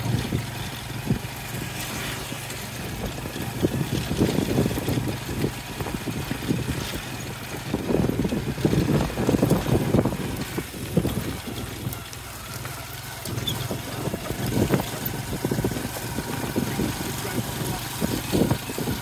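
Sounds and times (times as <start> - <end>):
knocks and rattles over bumps: 0.0 - 19.0
motorcycle engine running: 0.0 - 19.0.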